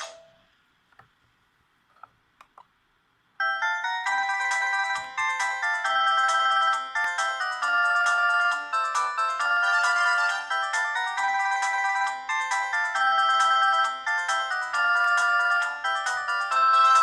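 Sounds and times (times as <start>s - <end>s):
polyphonic phone ringtone: 0.0s - 0.4s, 3.4s - 17.0s.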